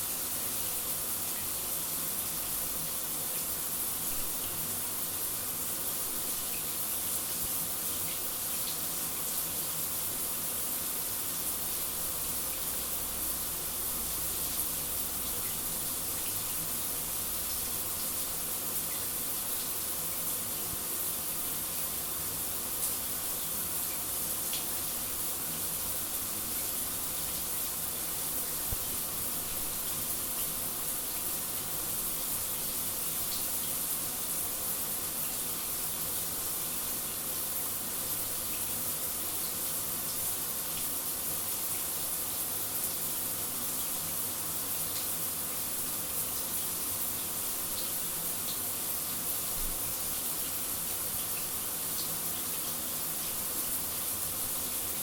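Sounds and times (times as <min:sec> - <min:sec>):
shower running: 0:00.0 - 0:55.0.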